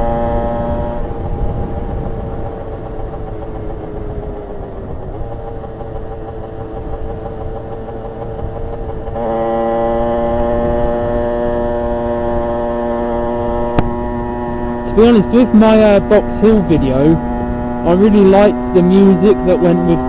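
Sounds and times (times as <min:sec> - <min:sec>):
two-stroke motorcycle engine: 0:00.0 - 0:20.0.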